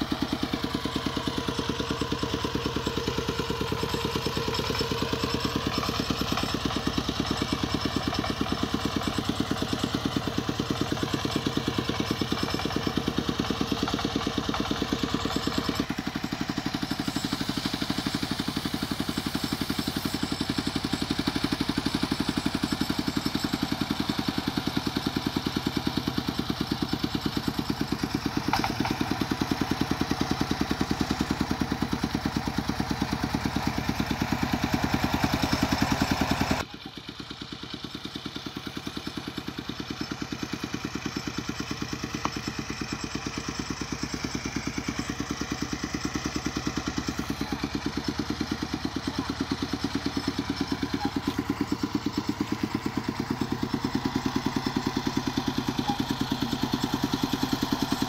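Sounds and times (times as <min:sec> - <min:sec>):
single-cylinder diesel engine running: 0:00.0 - 0:58.0.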